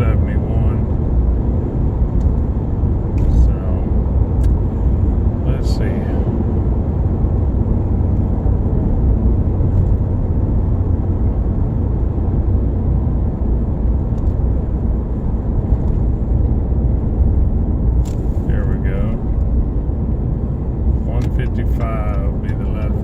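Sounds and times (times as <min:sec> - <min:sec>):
vehicle road and engine rumble: 0:00.0 - 0:23.0.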